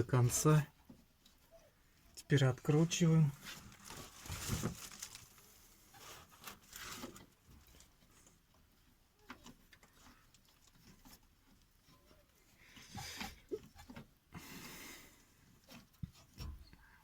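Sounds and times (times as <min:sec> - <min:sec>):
faint clicks and rustles: 0:00.0 - 0:17.0.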